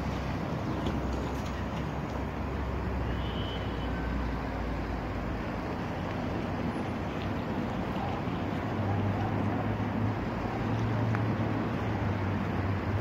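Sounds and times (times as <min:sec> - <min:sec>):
road and wind hiss: 0:00.0 - 0:13.0
vehicle engine rumble: 0:00.0 - 0:13.0.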